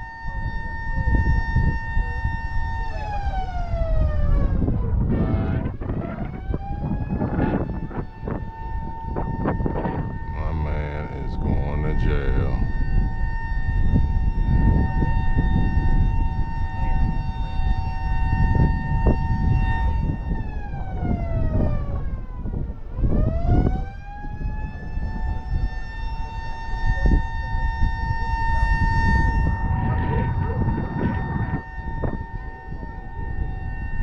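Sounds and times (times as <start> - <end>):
low rumbling noise: 0.0 - 34.0
mechanical warning siren: 0.0 - 34.0.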